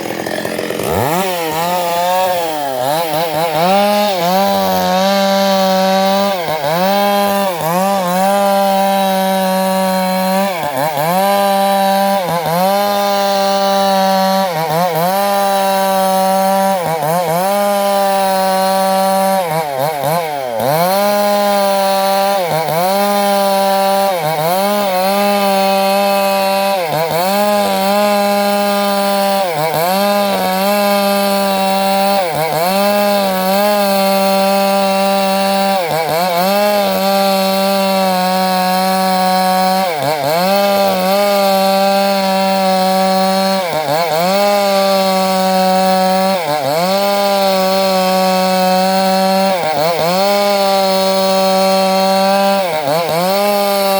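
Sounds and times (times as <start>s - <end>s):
chainsaw sawing wood: 0.0s - 53.9s.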